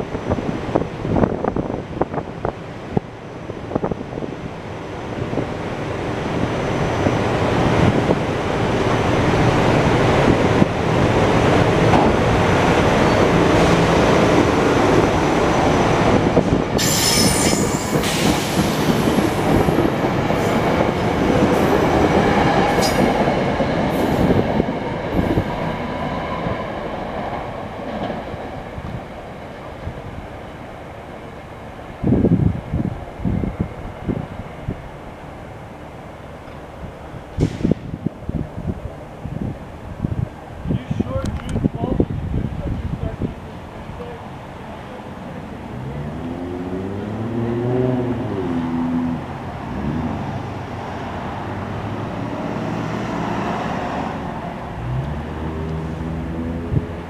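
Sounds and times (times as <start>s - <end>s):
train wheel and rail noise: 0.0s - 57.0s.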